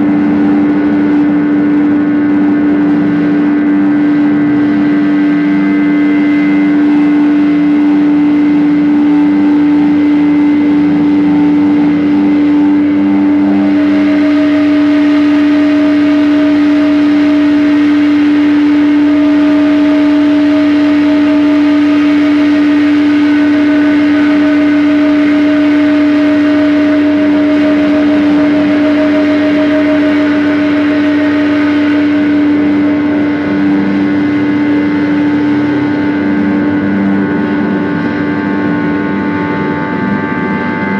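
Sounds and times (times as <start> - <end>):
dense noisy wash: 0.0 - 40.9
higher held tone: 0.0 - 40.9
pulsing lower layer: 0.0 - 40.9
steady low drone tone: 0.0 - 40.9.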